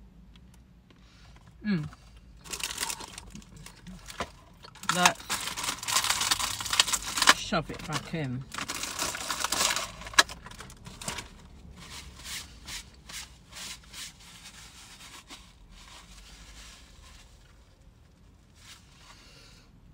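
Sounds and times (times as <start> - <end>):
foil wrapper and cardboard rustling: 2.4 - 19.2.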